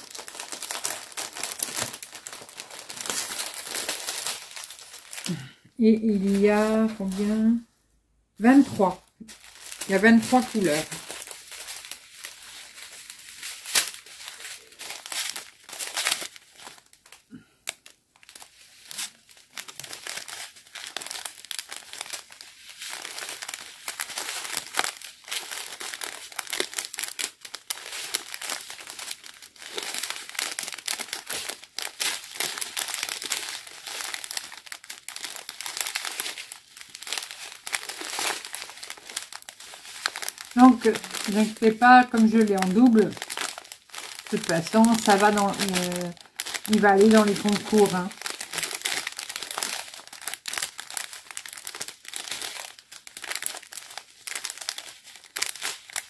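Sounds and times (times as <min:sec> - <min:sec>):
plastic bags crinkling: 0:00.0 - 0:07.6, 0:08.4 - 0:56.0.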